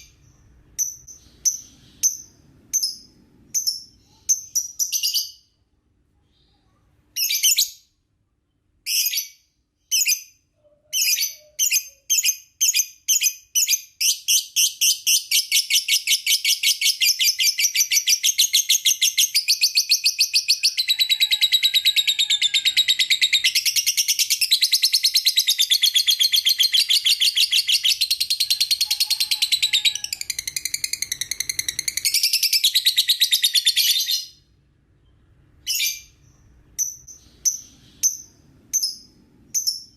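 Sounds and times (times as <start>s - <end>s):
lovebird chirping and trilling: 0.0s - 5.6s, 7.2s - 8.0s, 8.8s - 34.5s, 35.6s - 39.9s.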